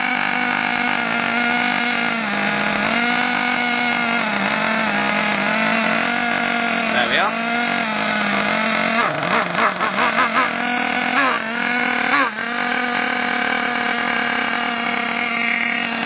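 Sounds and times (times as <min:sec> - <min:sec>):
small nitro engine revving: 0:00.0 - 0:16.0.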